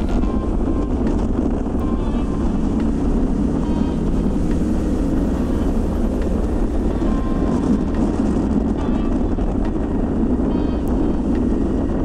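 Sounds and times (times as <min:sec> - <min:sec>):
motorcycle engine at highway speed: 0:00.0 - 0:12.0.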